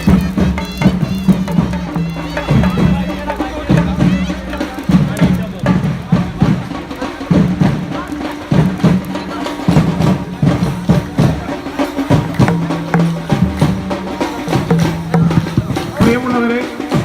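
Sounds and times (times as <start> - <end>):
drums and percussion beating: 0.0 - 17.0.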